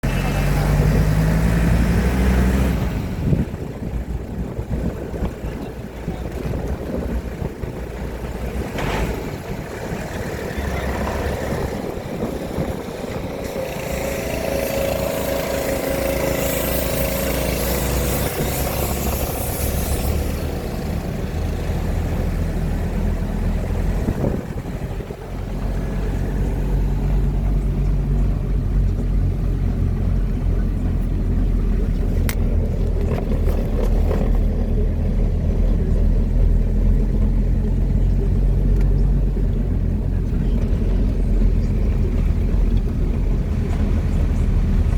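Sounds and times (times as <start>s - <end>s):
car engine hum: 0.0s - 44.9s
road noise: 0.0s - 44.9s.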